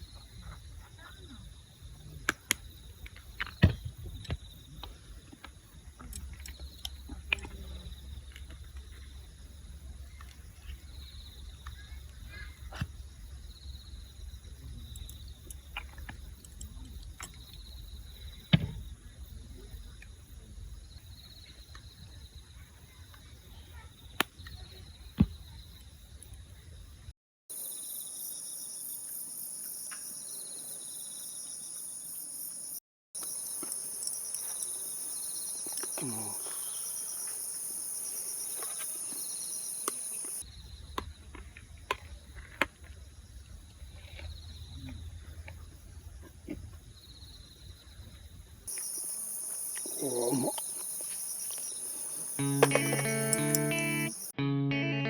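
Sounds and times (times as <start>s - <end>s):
wavering high insect chirp: 0.0s - 40.8s, 47.0s - 54.4s
steady insect drone: 0.0s - 54.3s.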